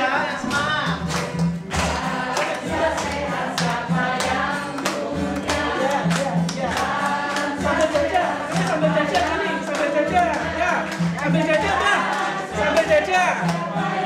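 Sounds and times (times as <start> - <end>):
acoustic guitar strumming: 0.0 - 14.0
group singing in unison: 0.0 - 14.0
hand-clapping: 0.0 - 14.0.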